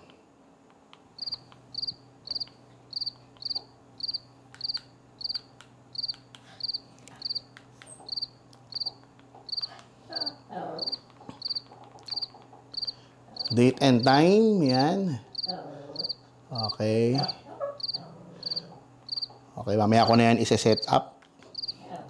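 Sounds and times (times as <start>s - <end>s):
faint low hum: 0.0s - 22.0s
cricket chirping: 1.2s - 7.5s, 8.1s - 19.4s, 21.5s - 21.8s.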